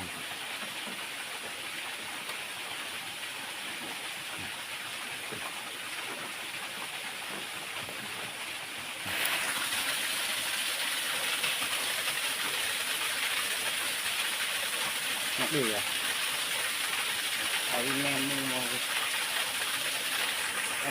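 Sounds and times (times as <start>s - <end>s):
flowing water rushing: 0.0s - 20.9s.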